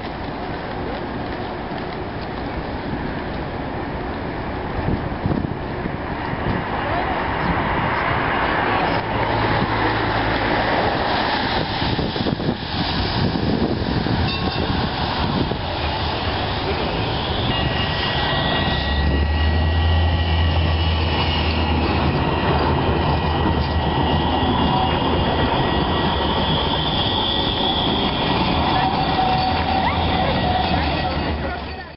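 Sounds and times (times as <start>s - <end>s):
tram rolling on rails: 0.0s - 31.9s.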